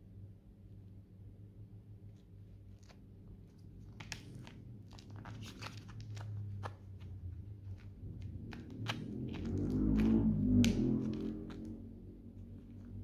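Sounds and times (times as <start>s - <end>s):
low steady hum: 0.0s - 13.0s
tape crinkling and rustling: 2.1s - 13.0s.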